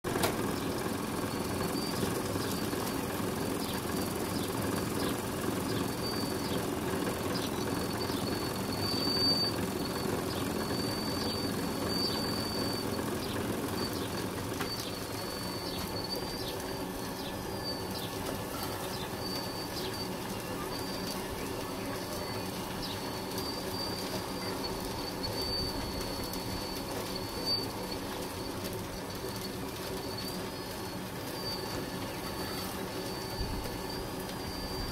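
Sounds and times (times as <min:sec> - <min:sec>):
hydraulic pump humming: 0:00.0 - 0:34.9
thin high motor whine: 0:00.1 - 0:34.9.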